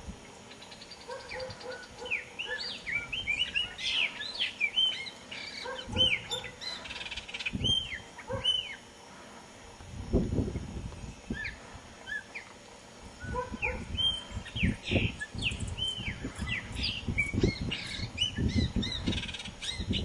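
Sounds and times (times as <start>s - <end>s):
blackbird singing: 0.5s - 8.9s, 11.2s - 12.5s, 13.2s - 20.0s.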